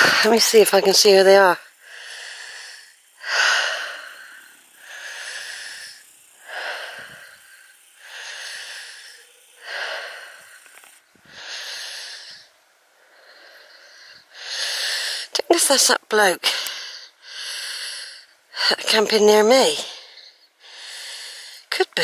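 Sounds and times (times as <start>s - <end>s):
person breathing hard: 0.0s - 0.4s, 1.5s - 15.3s, 16.4s - 18.7s, 19.8s - 21.7s.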